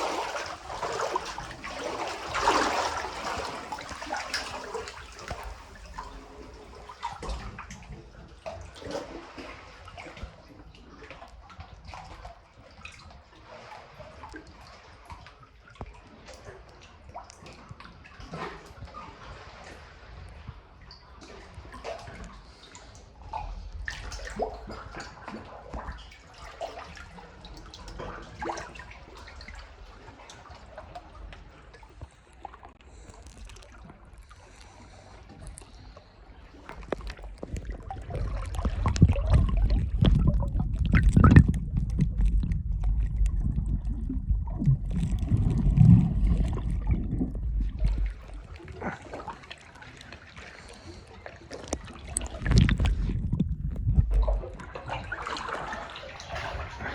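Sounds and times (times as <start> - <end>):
sea water lapping and sloshing: 0.0 - 56.9.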